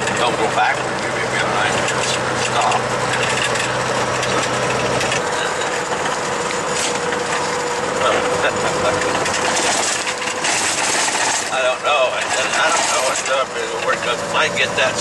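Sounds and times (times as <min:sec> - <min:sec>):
road and rattle noise: 0:00.0 - 0:15.0
truck engine running: 0:00.0 - 0:15.0.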